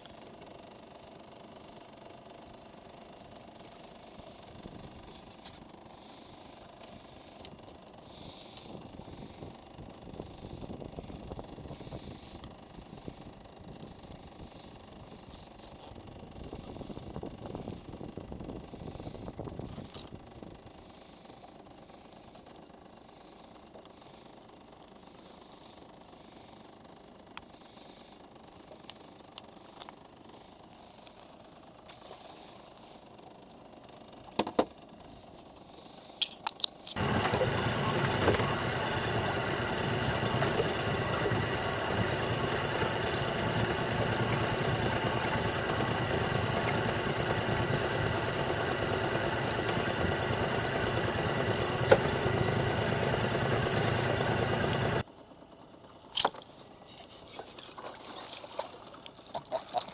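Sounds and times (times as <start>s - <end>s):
boat engine droning with whine: 0.0s - 59.9s.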